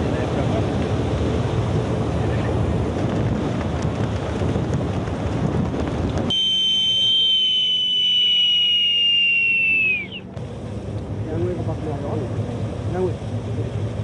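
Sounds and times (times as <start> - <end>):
ship engine rumble: 0.0 - 14.0
wind: 0.0 - 14.0.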